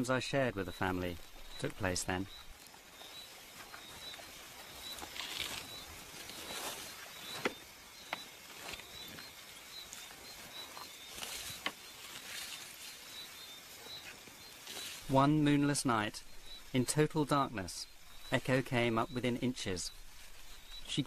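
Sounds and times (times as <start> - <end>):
insect chirping: 0.0 - 21.0
faint rustling: 0.3 - 21.0.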